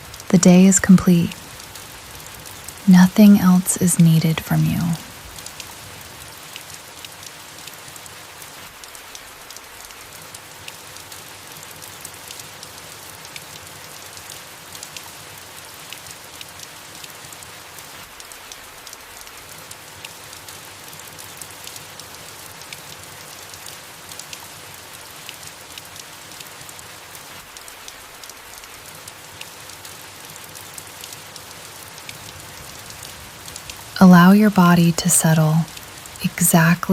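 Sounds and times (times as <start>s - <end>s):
rain falling on leaves: 0.0s - 3.8s, 4.5s - 36.9s.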